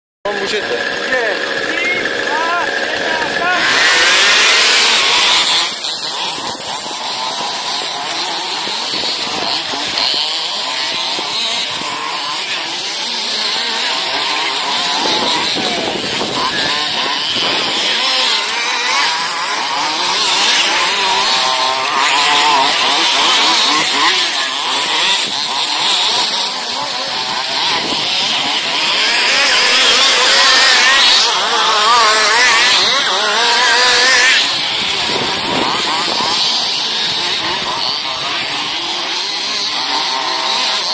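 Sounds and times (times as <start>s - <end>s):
rc buggy engines revving: 0.3s - 40.9s.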